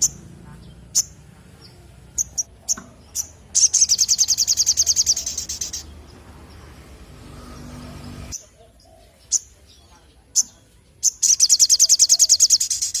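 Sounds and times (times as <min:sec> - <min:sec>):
bird chirping and trilling: 0:00.0 - 0:13.0.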